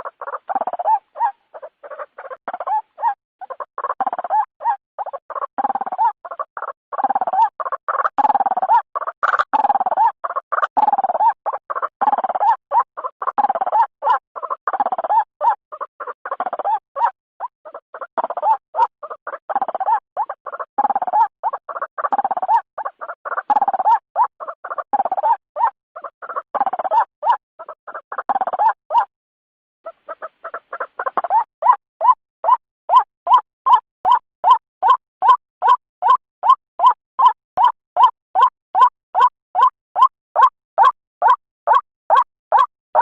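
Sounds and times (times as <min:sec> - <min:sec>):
bird calling harshly: 0:00.0 - 0:29.1, 0:29.9 - 0:43.0.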